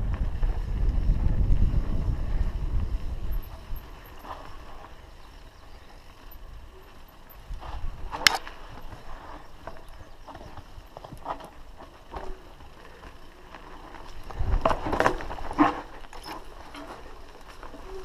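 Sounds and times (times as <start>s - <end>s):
mountain bike rattling: 0.0s - 18.0s.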